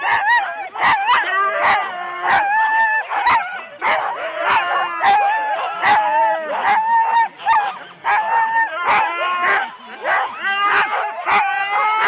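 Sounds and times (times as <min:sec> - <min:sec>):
dogs barking and yipping: 0:00.0 - 0:12.0
dogs whining and howling: 0:00.0 - 0:12.0.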